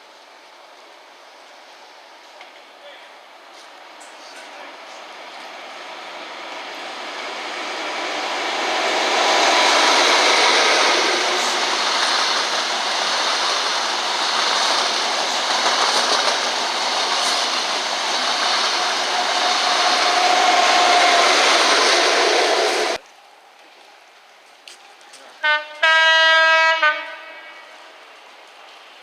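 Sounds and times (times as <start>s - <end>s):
train rolling along track: 0.0s - 23.0s, 23.6s - 29.0s.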